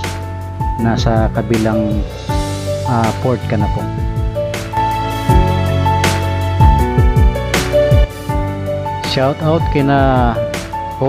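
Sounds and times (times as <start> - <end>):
music with held chords: 0.0 - 11.0.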